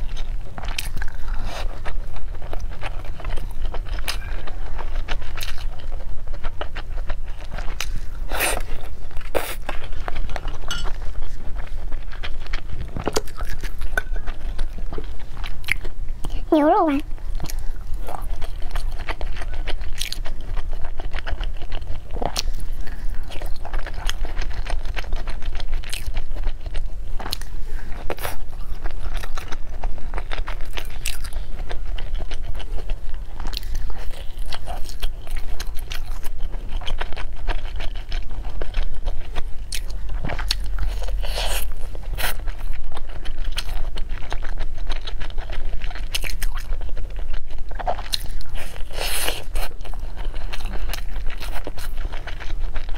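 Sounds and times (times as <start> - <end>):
person chewing and biting: 0.0 - 16.3, 17.2 - 52.9.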